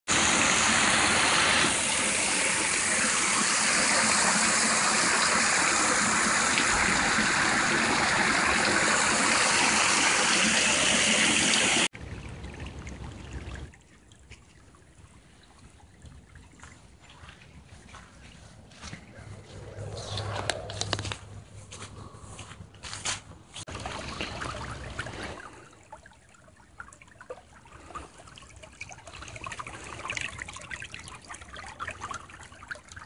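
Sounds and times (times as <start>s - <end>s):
water rushing through drain grate: 0.1s - 17.4s, 23.6s - 33.0s.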